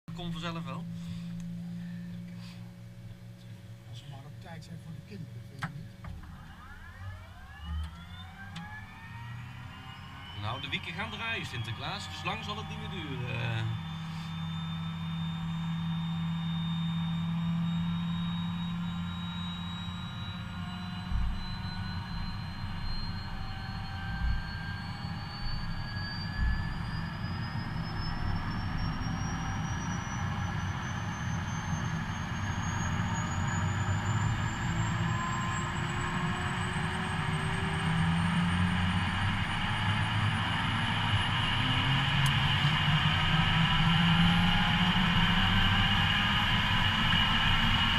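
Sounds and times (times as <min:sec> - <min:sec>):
helicopter turbine starting up: 0:06.0 - 0:47.9.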